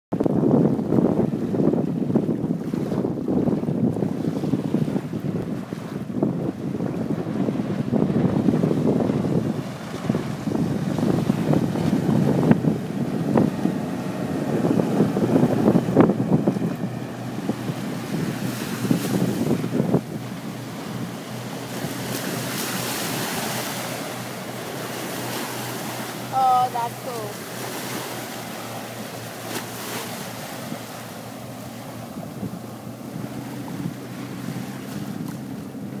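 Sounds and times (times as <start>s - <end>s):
outboard boat engines at speed: 0.1s - 36.0s
wind buffeting microphone: 0.1s - 36.0s
water splashes: 0.2s - 36.0s
small waves washing on sand: 0.7s - 36.0s.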